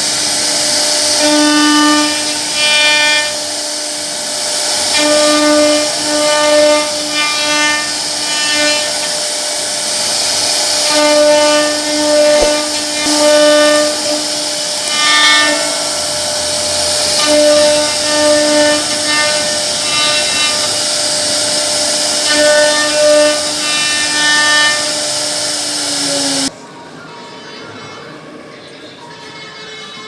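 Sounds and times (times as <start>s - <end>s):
wood router cutting wood: 0.0s - 26.5s.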